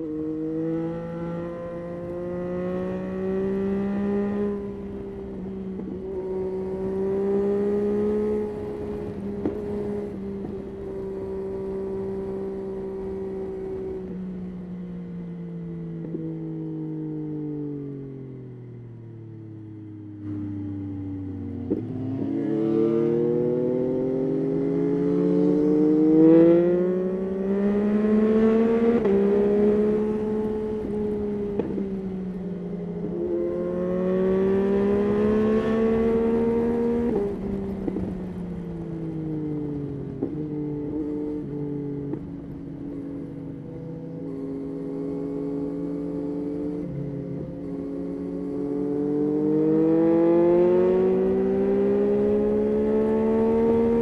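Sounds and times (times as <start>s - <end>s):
motorcycle engine revving: 0.0s - 14.2s, 20.2s - 54.0s.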